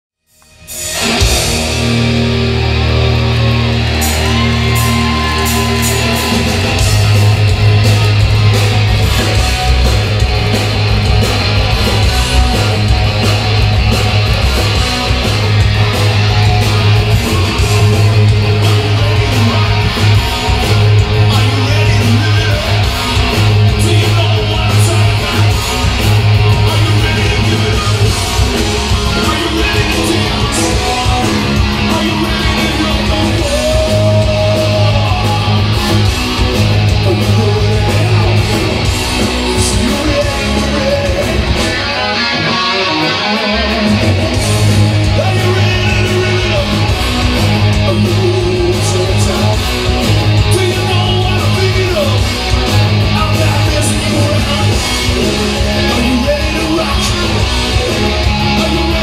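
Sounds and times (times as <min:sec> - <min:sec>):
loud rock music: 0:00.2 - 0:59.0.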